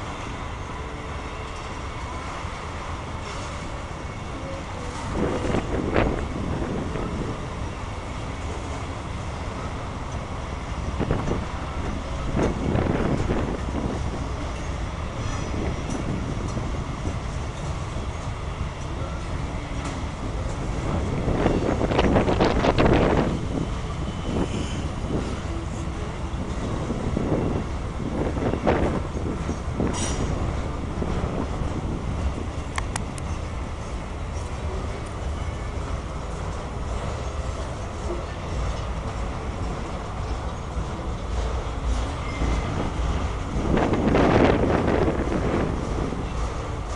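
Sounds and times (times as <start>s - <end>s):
train wheels clattering on rails: 0.0s - 46.9s.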